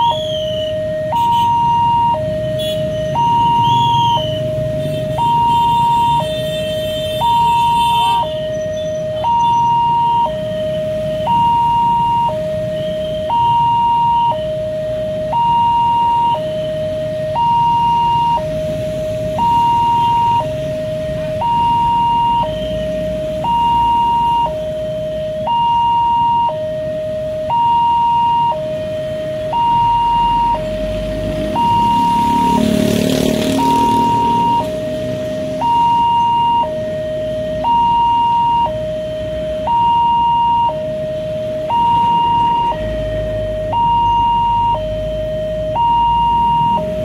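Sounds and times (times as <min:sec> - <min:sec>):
level-crossing two-tone alarm: 0:00.0 - 0:47.0.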